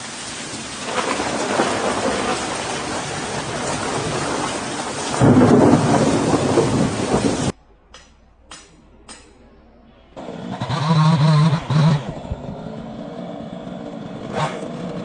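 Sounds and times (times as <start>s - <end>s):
deep rumble: 1.2s - 14.3s.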